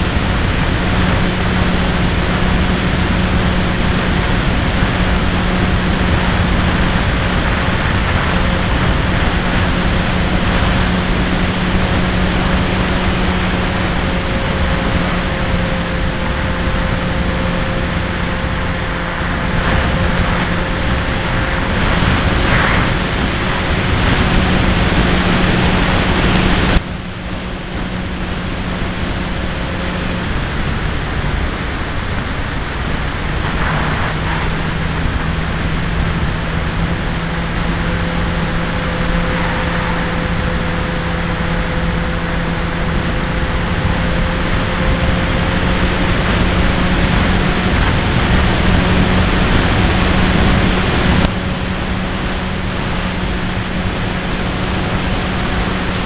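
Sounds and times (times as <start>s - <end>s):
model plane engine running: 0.0s - 56.0s
wind rush: 0.0s - 56.0s.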